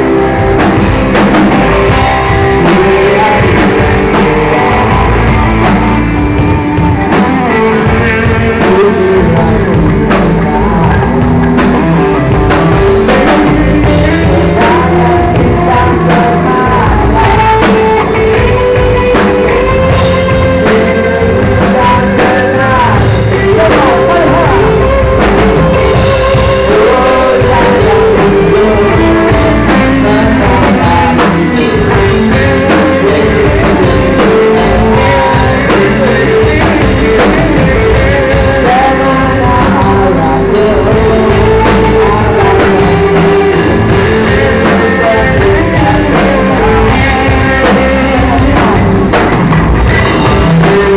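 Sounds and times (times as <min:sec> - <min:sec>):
electric guitar: 0:00.0 - 0:50.9
rock band playing live: 0:00.0 - 0:50.9.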